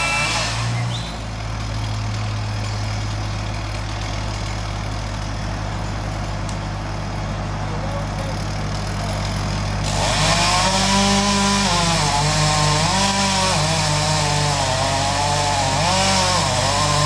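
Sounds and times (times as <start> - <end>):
chainsaw cutting wood: 0.0 - 6.9, 8.1 - 17.0
engine hum: 0.0 - 17.0.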